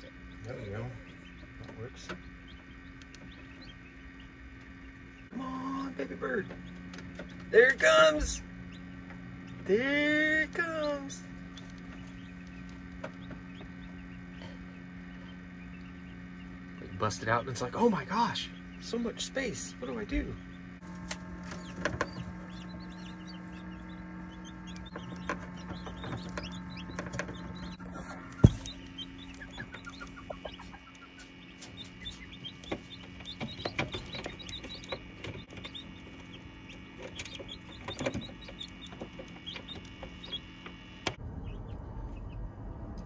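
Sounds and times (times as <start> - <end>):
ducklings peeping: 0.0 - 43.0
steady low hum: 0.0 - 43.0.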